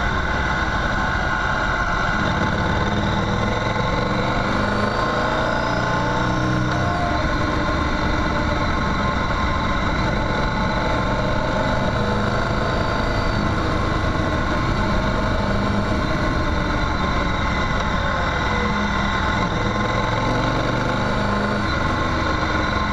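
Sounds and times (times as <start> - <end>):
motorcycle engine running: 0.0 - 22.9
road noise: 0.0 - 22.9.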